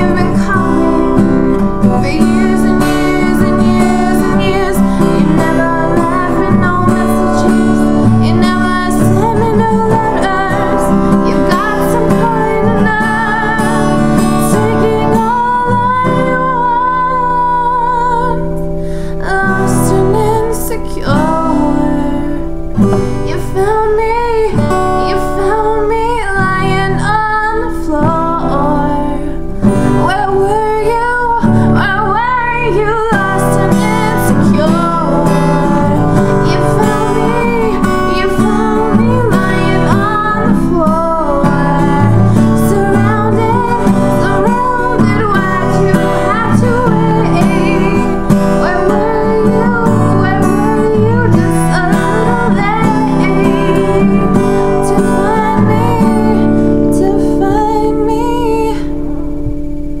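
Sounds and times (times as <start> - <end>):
strummed acoustic guitar: 0.0 - 60.0
woman singing: 0.0 - 60.0.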